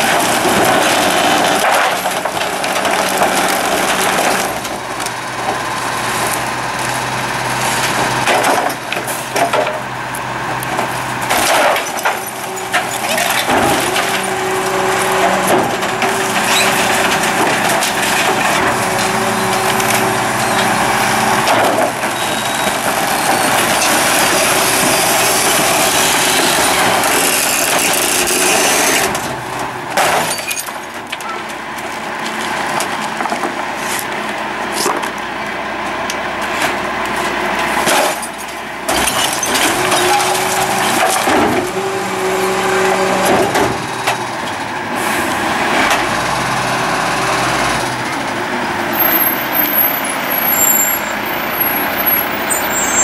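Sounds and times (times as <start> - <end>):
wood cracking and splintering: 0.0 - 9.8, 10.6 - 35.2, 36.1 - 44.6
garbage truck compactor drone: 0.0 - 53.0.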